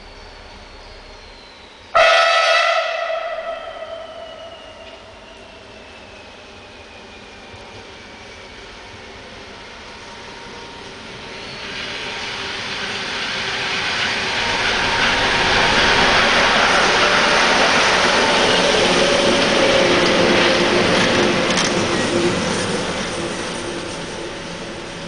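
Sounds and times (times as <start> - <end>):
diesel locomotive engine: 0.0 - 25.0
train wheels on rails: 0.0 - 25.0.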